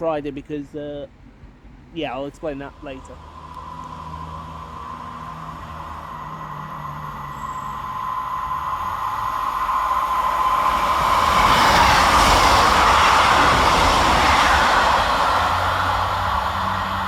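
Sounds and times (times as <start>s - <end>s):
steady high whine: 0.0s - 17.0s
train wheels and engine rushing: 0.0s - 17.0s.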